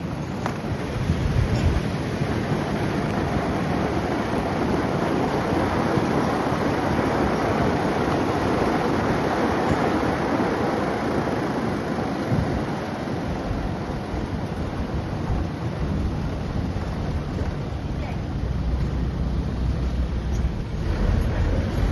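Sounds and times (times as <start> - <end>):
wind and road noise: 0.0 - 21.9
wind buffeting microphone: 0.0 - 21.9.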